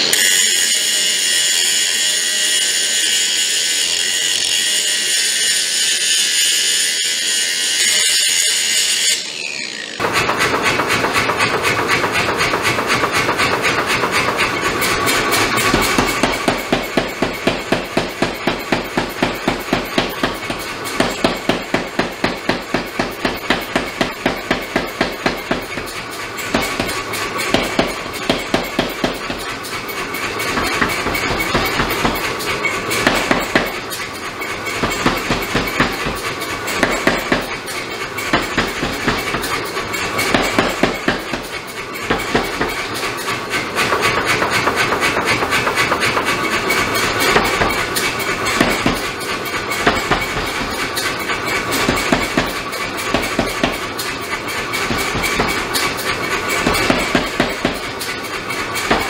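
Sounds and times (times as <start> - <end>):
angle grinder cutting steel: 0.0 - 59.0
power hammer pounding steel: 0.0 - 59.0.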